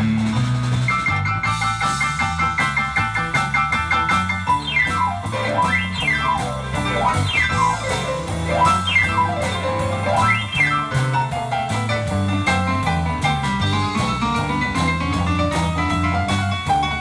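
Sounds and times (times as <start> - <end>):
drum and bass beat: 0.0 - 17.0
keyboard glissandos: 0.0 - 17.0.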